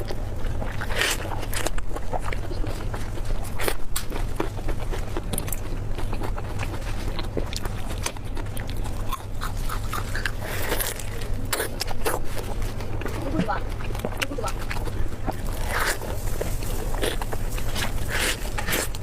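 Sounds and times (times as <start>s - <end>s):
low hum: 0.0s - 19.0s
person chewing food: 0.0s - 19.0s.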